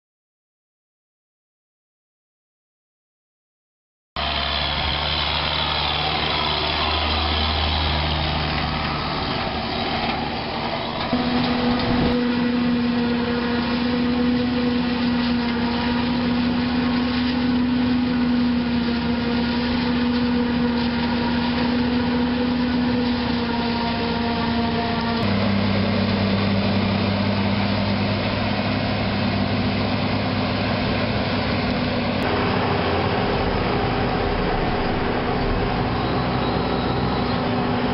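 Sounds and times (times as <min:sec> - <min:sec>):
diesel engines running under load: 0:04.2 - 0:37.9.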